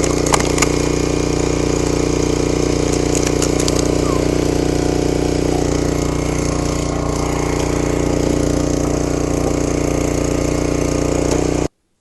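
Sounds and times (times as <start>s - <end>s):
log splitter engine running: 0.0s - 11.7s.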